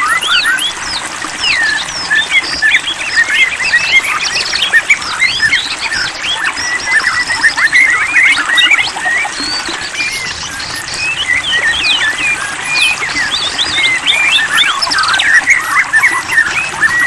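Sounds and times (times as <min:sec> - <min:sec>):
bird singing whistles and trills: 0:00.0 - 0:17.0.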